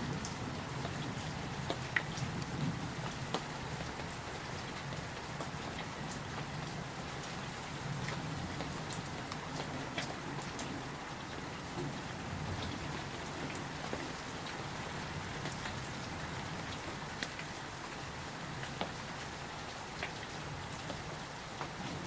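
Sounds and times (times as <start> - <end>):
raindrops ticking on surfaces: 0.0 - 22.0
steady rain hissing: 0.0 - 22.0.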